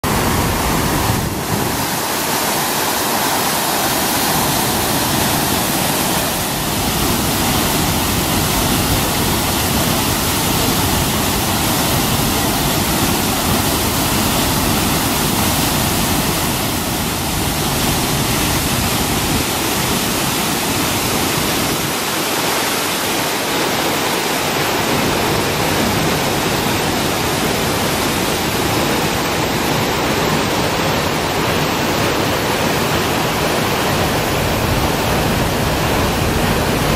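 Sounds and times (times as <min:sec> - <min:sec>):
water jetting from dam outlet: 0:00.0 - 0:36.9.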